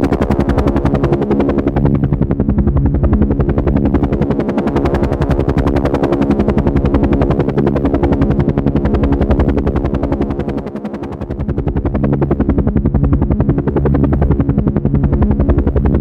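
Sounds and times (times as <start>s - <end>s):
helicopter engine drone: 0.0s - 16.0s
helicopter rotor blades chopping: 0.0s - 16.0s.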